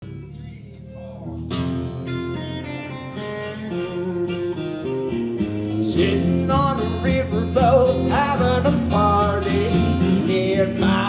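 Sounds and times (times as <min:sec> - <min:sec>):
country-rock guitar playing: 0:01.1 - 0:11.0.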